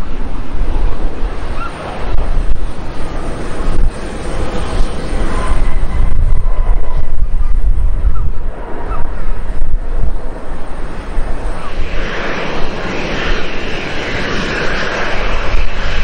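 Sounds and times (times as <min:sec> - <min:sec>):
jet engines rumbling: 0:00.0 - 0:16.0
wind buffeting microphone: 0:00.0 - 0:16.0.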